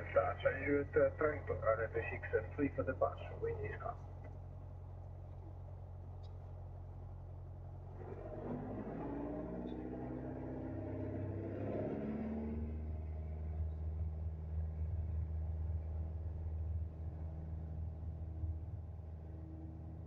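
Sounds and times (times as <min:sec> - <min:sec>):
propeller plane engine in cabin: 0:00.0 - 0:20.0.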